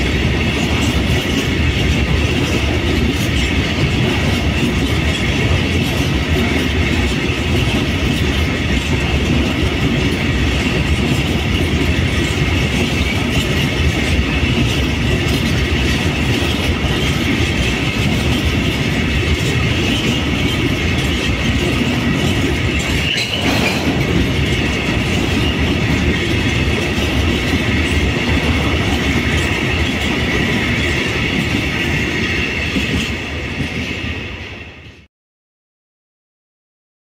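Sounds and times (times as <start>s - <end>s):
train wheels rumbling over rails: 0.0s - 35.1s.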